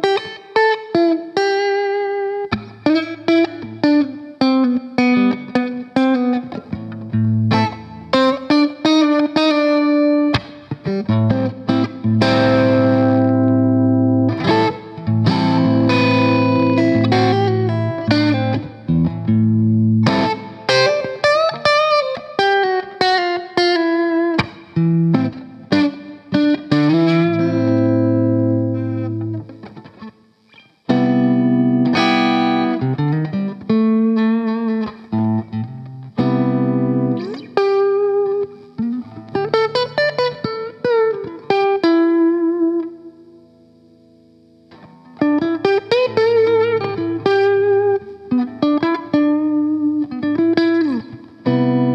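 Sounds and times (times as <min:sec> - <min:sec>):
overdriven electric guitar: 0:00.0 - 0:51.9.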